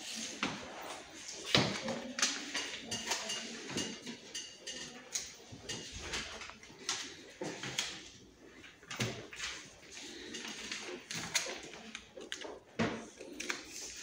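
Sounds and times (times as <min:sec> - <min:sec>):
pencils tapping on desks: 0:00.1 - 0:14.0.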